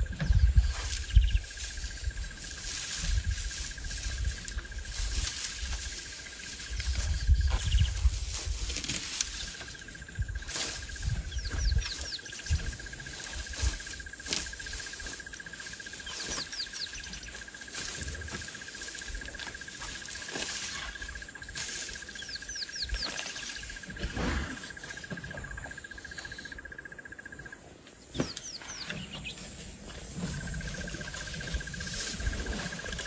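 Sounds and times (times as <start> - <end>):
insect drone: 0.0 - 33.0.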